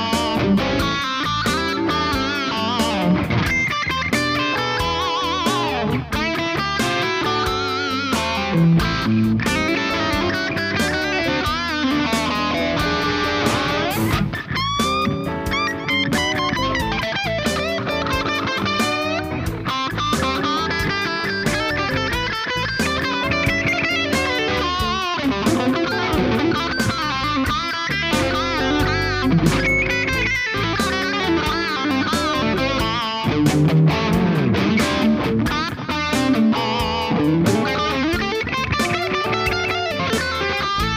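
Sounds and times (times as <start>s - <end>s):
backing track with drums: 0.0s - 40.9s
electric guitar lead lines: 0.0s - 40.9s.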